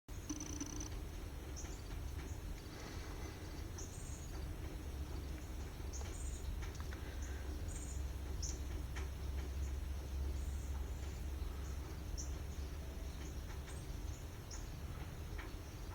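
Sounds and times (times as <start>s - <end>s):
low background rumble: 0.1s - 15.9s
songbirds chirping: 0.2s - 15.9s.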